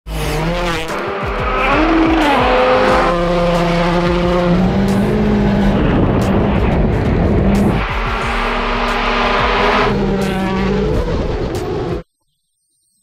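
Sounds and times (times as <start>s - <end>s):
rally car engine revving: 0.1s - 12.0s.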